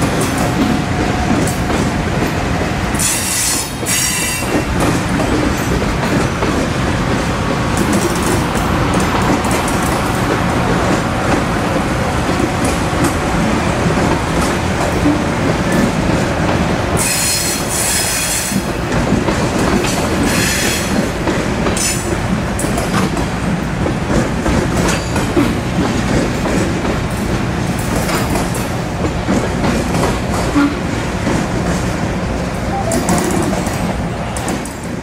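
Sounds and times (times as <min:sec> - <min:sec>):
train wheels clickety-clack: 0:00.0 - 0:35.0.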